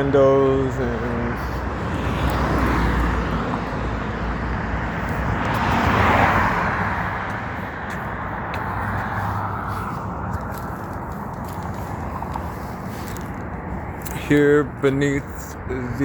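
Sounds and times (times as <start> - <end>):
low traffic rumble: 0.0 - 16.0
passing vehicle: 0.0 - 16.0.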